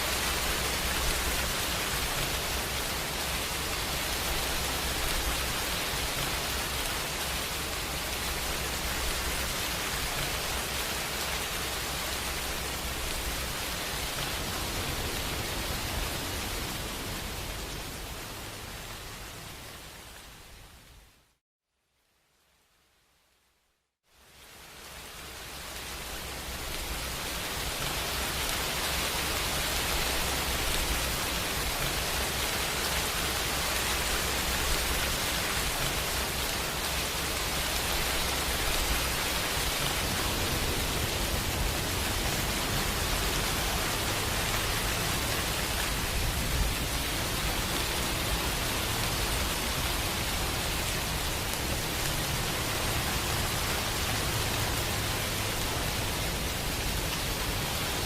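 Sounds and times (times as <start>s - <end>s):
heavy rain hiss: 0.0s - 21.0s, 24.1s - 58.0s.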